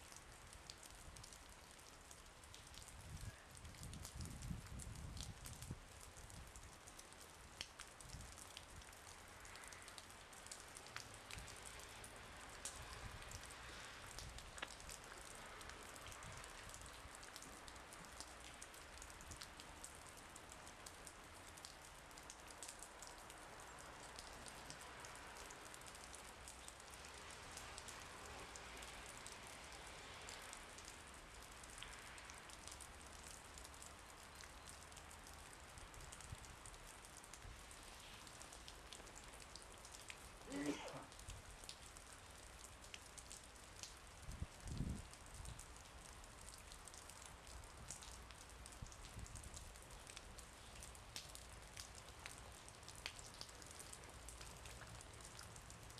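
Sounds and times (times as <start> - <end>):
light rain pattering: 0.0 - 55.9.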